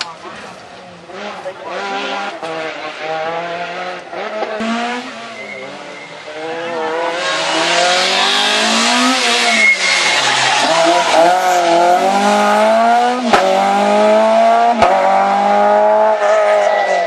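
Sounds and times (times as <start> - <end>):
rally car engine revving: 0.1 - 17.0.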